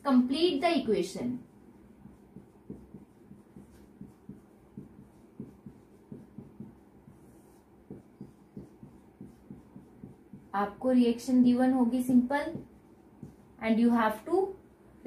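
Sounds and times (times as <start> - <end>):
marker writing on whiteboard: 1.3 - 14.5.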